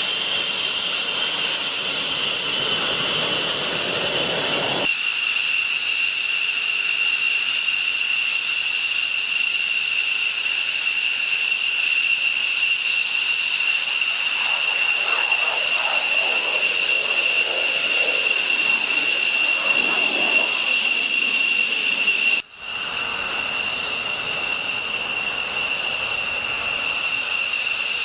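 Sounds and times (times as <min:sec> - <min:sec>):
jet engine whine: 0:00.0 - 0:28.0.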